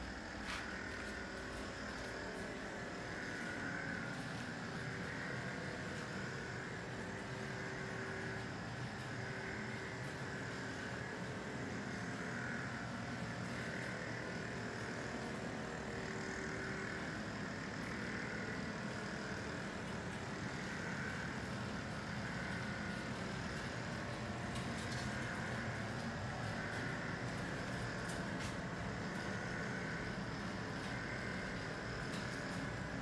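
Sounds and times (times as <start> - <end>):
background drone and hiss: 0.0 - 33.0.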